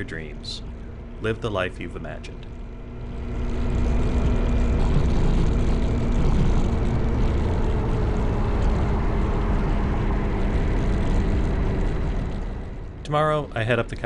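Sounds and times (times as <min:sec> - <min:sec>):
motorcycle engine drone: 0:00.0 - 0:14.0
wind and road noise: 0:00.0 - 0:14.0.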